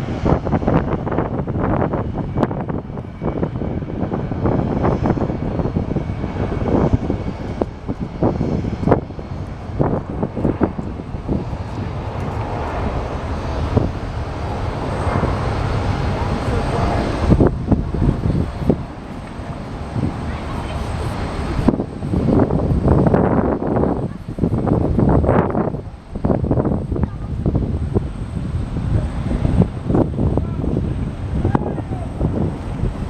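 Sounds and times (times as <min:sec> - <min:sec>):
jet engines running: 0:00.0 - 0:33.0
wind buffeting microphone: 0:00.0 - 0:33.0.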